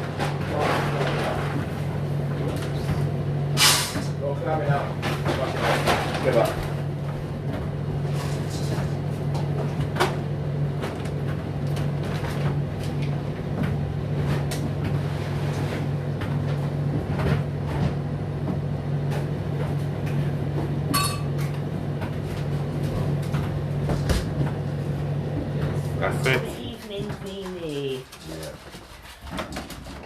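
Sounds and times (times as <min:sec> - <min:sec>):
tumble dryer motor hum: 0:00.0 - 0:30.0.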